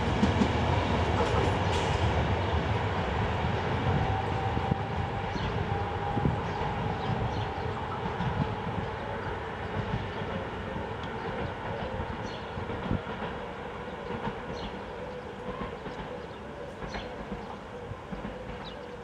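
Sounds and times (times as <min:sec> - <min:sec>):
electric train rolling rumble: 0:00.0 - 0:19.0.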